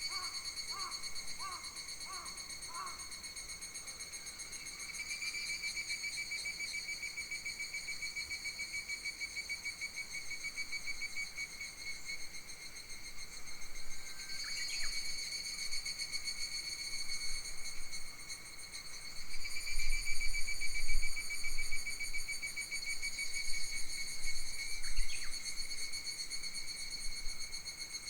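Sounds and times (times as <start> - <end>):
insects droning chorus: 0.0 - 28.0.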